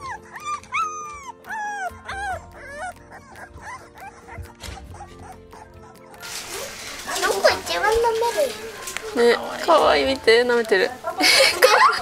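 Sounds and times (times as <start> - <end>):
puppies whimpering: 0.0 - 9.9
soft background music: 0.0 - 12.0.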